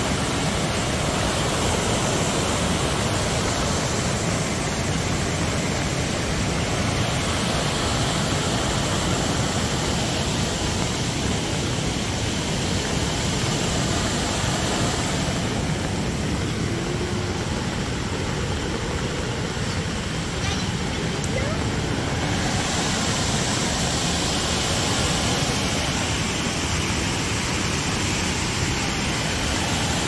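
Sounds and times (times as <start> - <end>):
heavy rain: 0.0 - 30.0
river in flood rushing: 0.0 - 30.0.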